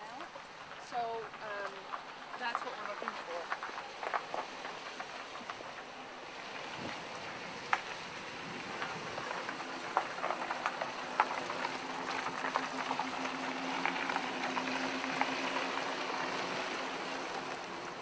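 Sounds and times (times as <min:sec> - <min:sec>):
truck engine hum: 0:00.0 - 0:18.0.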